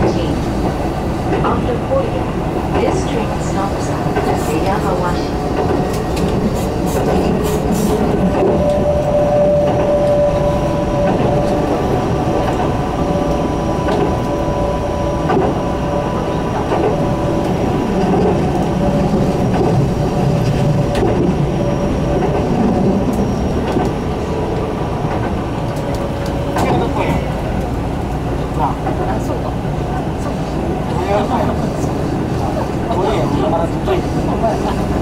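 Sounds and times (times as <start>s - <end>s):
electric train whine: 0.0s - 35.0s
train wheels rumbling on rail: 0.0s - 35.0s.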